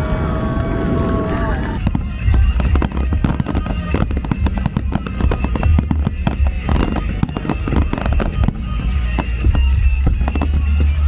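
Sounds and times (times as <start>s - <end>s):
fireworks bangs and crackles: 0.0s - 11.0s
music playing: 0.0s - 11.0s.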